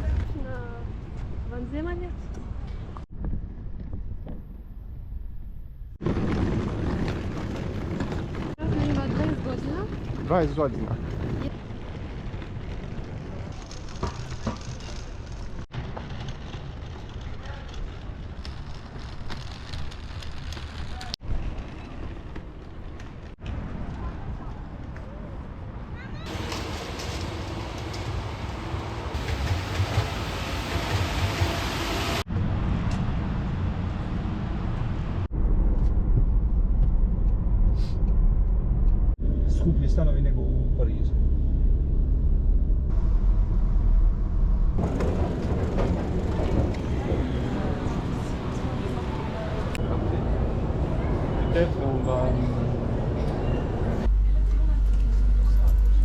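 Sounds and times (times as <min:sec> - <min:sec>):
outdoor street noise: 0:00.0 - 0:56.0
wind rumbling on microphone: 0:00.0 - 0:56.0.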